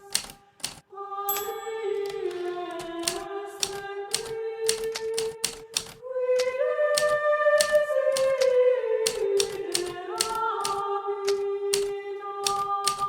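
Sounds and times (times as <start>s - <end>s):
typewriter keys striking: 0.0s - 0.8s, 2.0s - 13.0s.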